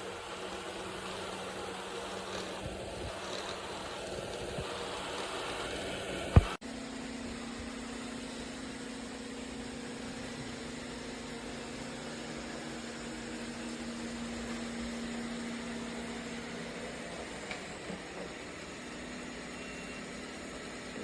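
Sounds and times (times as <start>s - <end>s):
robot vacuum motor hum: 0.0s - 21.0s.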